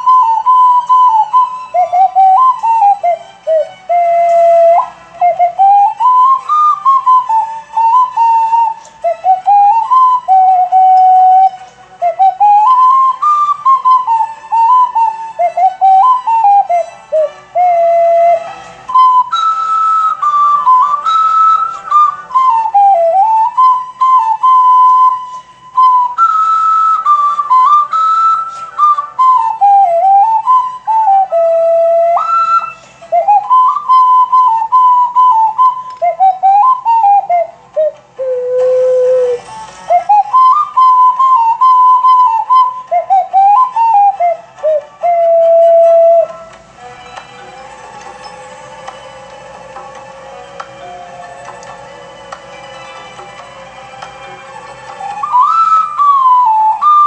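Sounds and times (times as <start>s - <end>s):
soft backing music: 0.0s - 57.0s
whistle-like melody: 0.0s - 57.0s.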